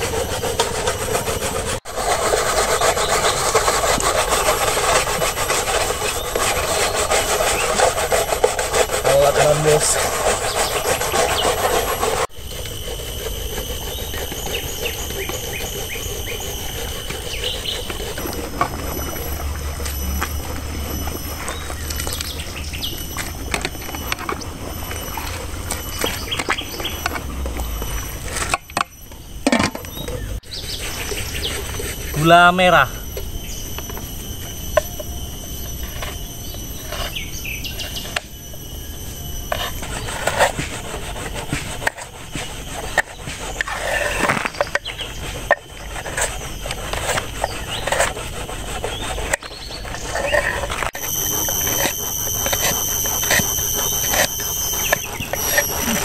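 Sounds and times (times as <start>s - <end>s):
knife scraping sugar: 0.0s - 28.5s, 39.4s - 56.0s
birds chirping: 4.3s - 13.0s, 13.7s - 41.0s, 42.1s - 56.0s.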